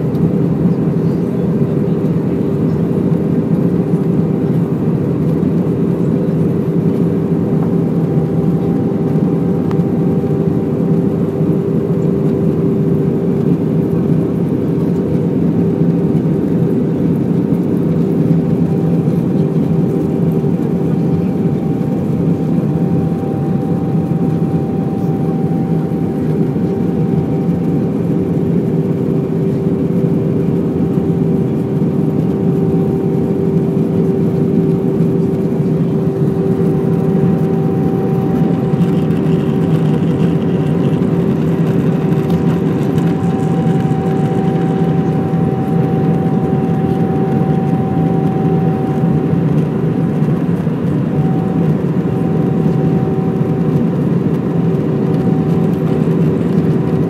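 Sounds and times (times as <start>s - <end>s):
airliner engine and airflow noise: 0.0s - 57.0s
low hum: 6.5s - 57.0s.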